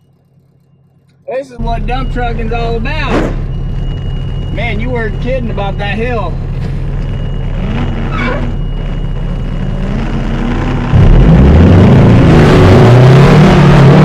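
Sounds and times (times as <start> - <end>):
truck diesel engine accelerating: 1.6 - 14.0.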